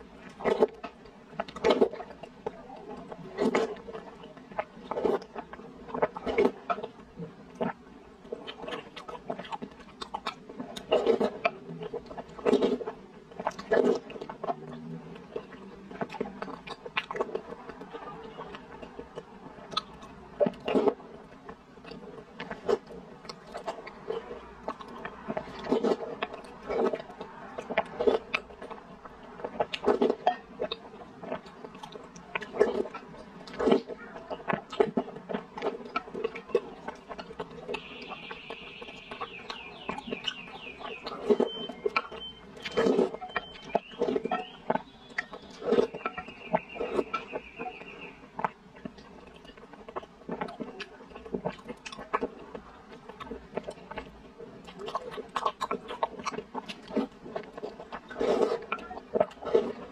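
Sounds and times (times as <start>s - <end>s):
person slurping and chewing: 0.0s - 47.4s, 48.3s - 59.9s.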